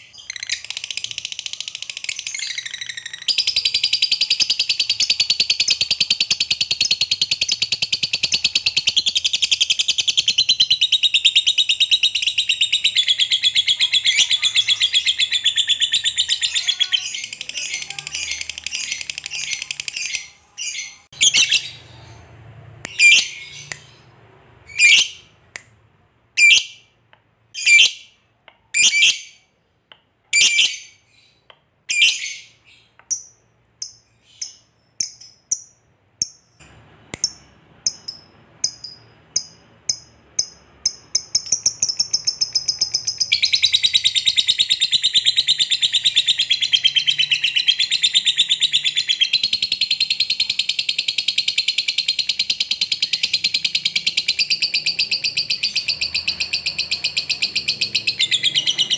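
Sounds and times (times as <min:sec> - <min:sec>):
lovebird chirping and chattering: 0:00.0 - 0:25.4, 0:26.4 - 0:27.0, 0:27.6 - 0:29.5, 0:30.3 - 0:58.9.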